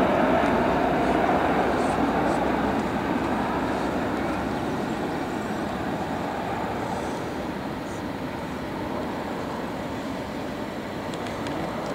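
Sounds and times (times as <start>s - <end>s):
jet engine rush: 0.0s - 11.9s.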